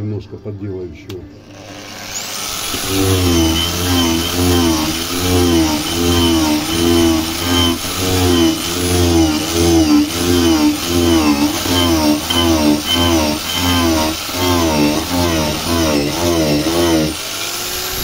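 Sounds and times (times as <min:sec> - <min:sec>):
power tool carving wood: 0:01.5 - 0:18.0.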